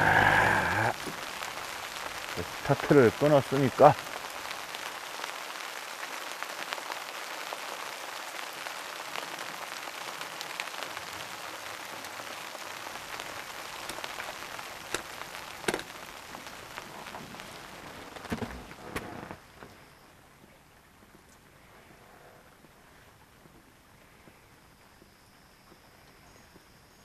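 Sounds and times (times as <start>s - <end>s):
raindrop ticks: 0.0s - 8.0s, 8.7s - 19.8s, 20.8s - 26.8s
rain falling: 0.0s - 27.0s.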